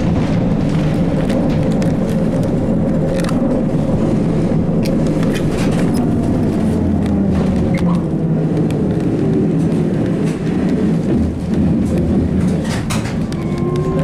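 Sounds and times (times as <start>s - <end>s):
trolleybus interior rumble: 0.0s - 14.0s.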